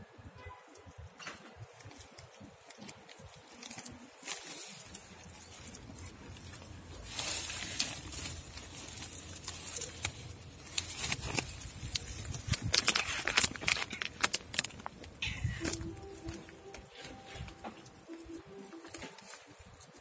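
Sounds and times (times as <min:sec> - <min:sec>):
dry kibble rattling: 0:01.6 - 0:20.0
plastic bag crinkling: 0:01.6 - 0:20.0.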